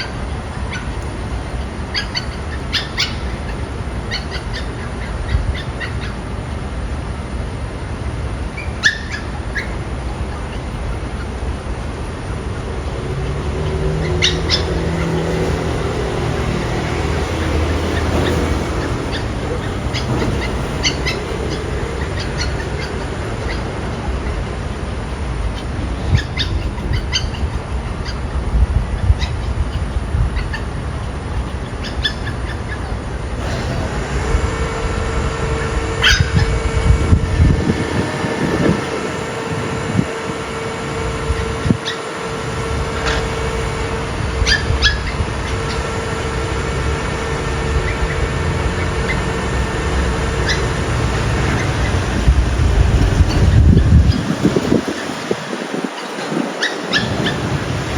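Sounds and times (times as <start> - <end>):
dogs barking: 0.0 - 57.9
steady hum: 0.0 - 57.9
traffic rumble: 0.0 - 57.9.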